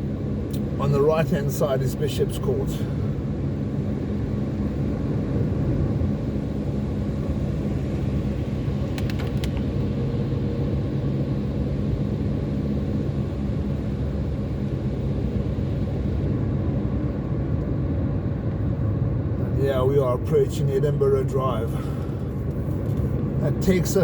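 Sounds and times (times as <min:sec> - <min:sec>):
car road and engine drone: 0:00.0 - 0:24.0.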